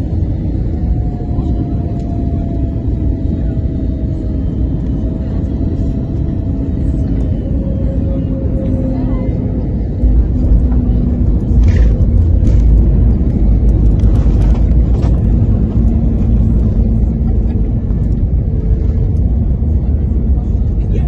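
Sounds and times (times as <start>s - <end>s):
airplane landing rumble in cabin: 0.0s - 21.0s.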